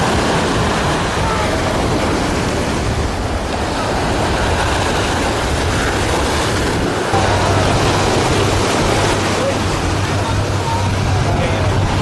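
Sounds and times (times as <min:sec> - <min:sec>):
jet engines roaring: 0:00.0 - 0:12.0
low hum: 0:00.3 - 0:12.0.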